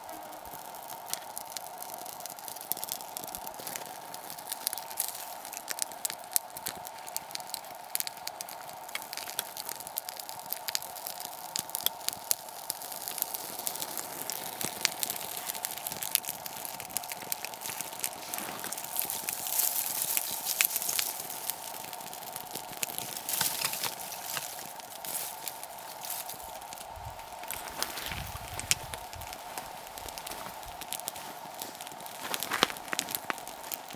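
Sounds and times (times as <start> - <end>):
bark fire crackling and popping: 0.0 - 33.9.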